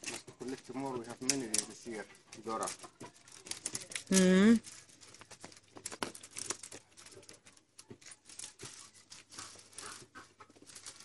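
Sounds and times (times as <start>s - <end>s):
straw and twigs crackling: 0.0s - 11.0s
twigs snapping: 0.0s - 11.0s.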